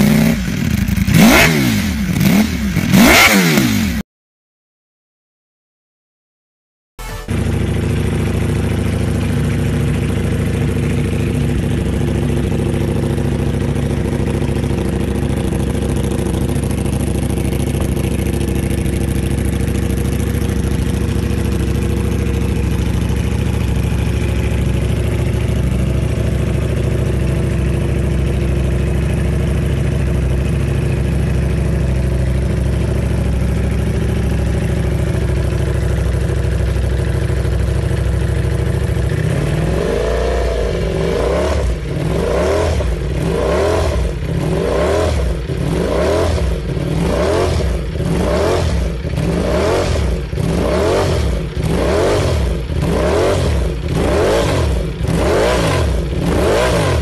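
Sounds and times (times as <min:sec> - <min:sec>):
motorcycle engine idling: 0:00.0 - 0:04.0, 0:07.0 - 0:57.0.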